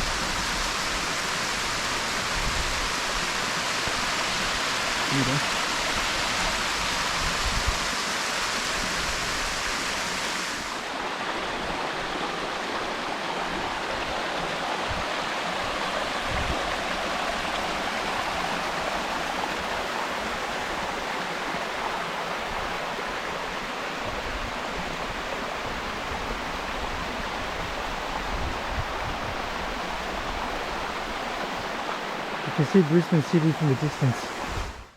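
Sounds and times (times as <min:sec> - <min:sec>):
water rushing from waterfall: 0:00.0 - 0:34.9.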